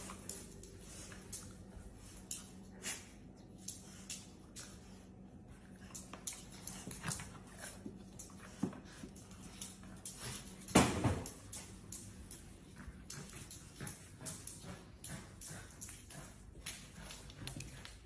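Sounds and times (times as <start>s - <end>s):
dog claws clicking on tiles: 0.0s - 18.0s.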